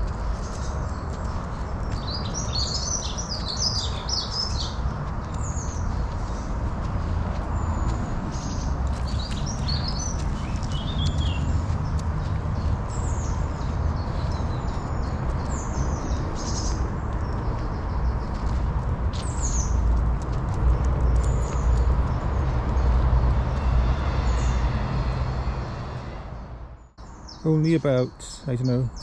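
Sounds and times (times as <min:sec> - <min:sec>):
songbirds singing: 0:00.0 - 0:26.2, 0:26.8 - 0:29.0.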